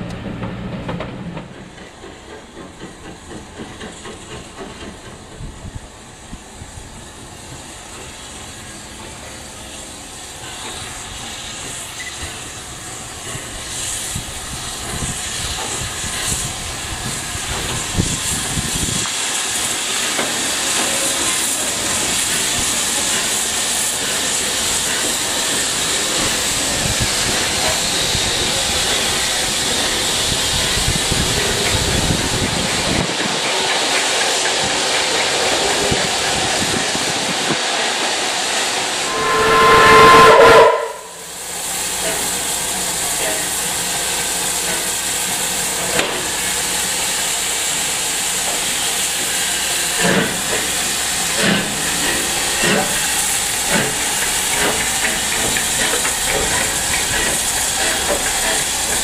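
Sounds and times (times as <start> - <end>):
train coaches rolling by: 0.0 - 59.0
steam locomotive hissing steam: 1.2 - 59.0.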